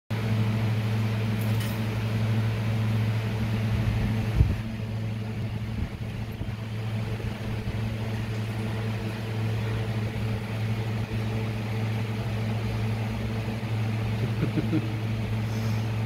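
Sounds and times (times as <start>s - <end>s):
low mechanical hum: 0.1s - 16.0s.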